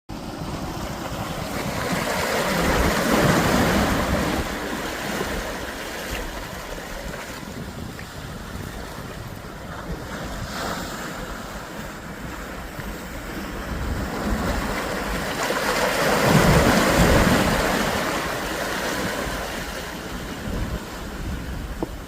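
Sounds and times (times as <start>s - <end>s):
waves washing on shore: 0.1s - 22.0s
wind on microphone: 0.1s - 22.0s.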